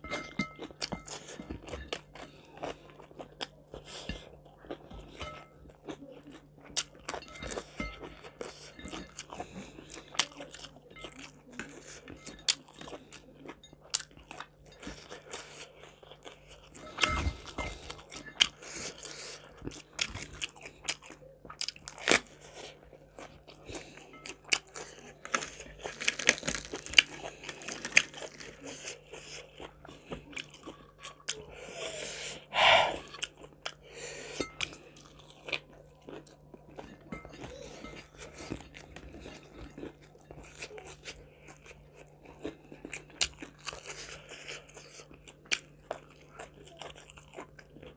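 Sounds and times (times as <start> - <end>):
crispy chicken crunching: 0.0 - 31.7, 33.0 - 47.9.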